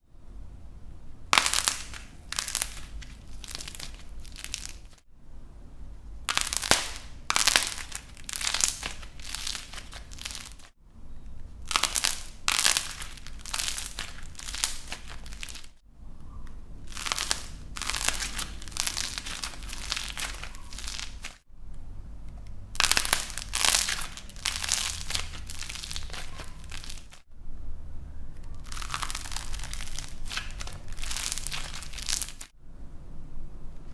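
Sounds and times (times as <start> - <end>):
dried clay crackling and crunching: 1.3 - 5.0, 5.9 - 21.4, 22.0 - 27.3, 28.3 - 32.6.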